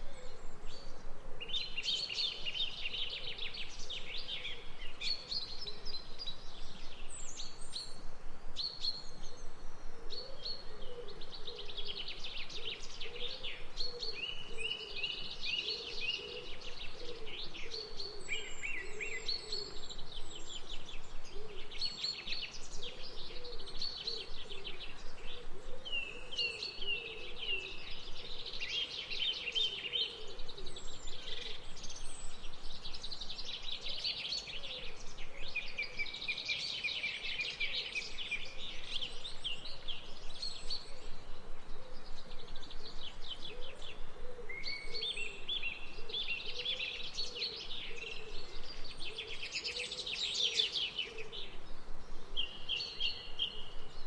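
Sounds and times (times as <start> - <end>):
birds chirping and trilling: 10.2 - 54.0.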